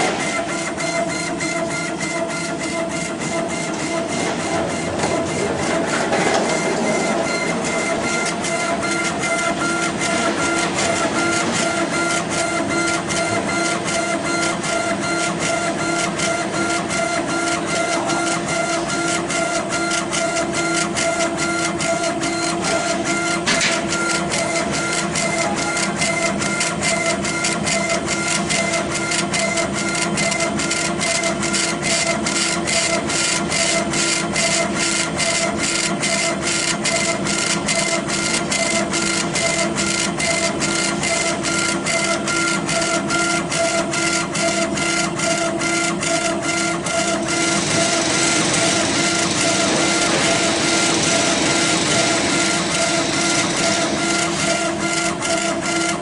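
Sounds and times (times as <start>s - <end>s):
laser engraver mechanical whine: 0.0s - 56.0s.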